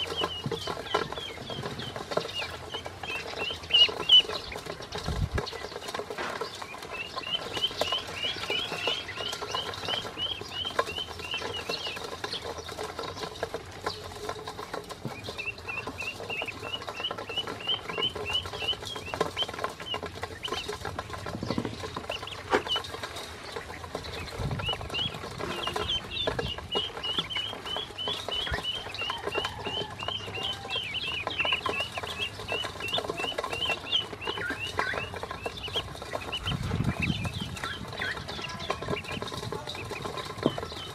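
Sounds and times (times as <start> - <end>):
bills pecking metal bowl: 0.0 - 40.9
ducklings peeping: 0.0 - 40.9.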